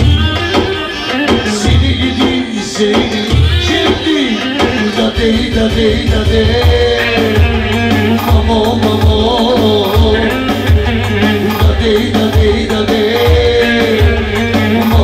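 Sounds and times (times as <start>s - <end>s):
low drum beat: 0.0s - 15.0s
ornamented lead melody: 0.0s - 15.0s.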